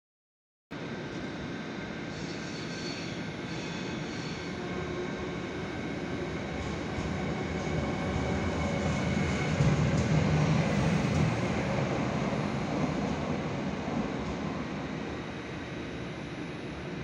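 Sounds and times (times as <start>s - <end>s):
electric locomotive hum: 0.8s - 17.0s.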